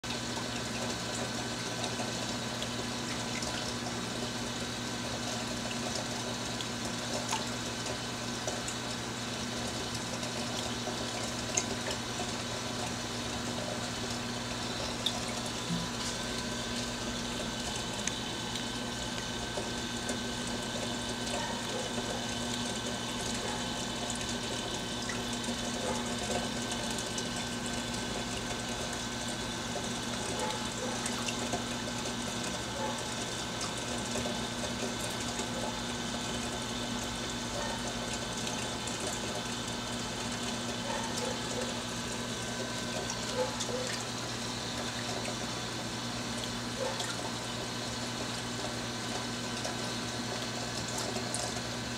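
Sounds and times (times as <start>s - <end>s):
circulation pumps humming: 0.0s - 51.9s.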